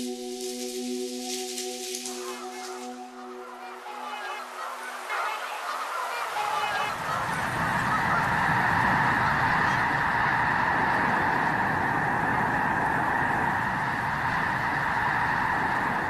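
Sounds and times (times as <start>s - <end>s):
flock of geese honking: 0.0s - 16.0s.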